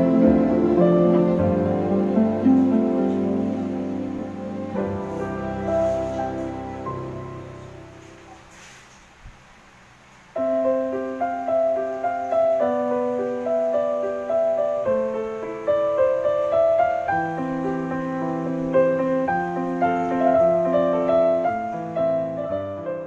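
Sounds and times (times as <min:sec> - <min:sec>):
gentle piano music: 0:00.0 - 0:08.9, 0:10.3 - 0:23.0.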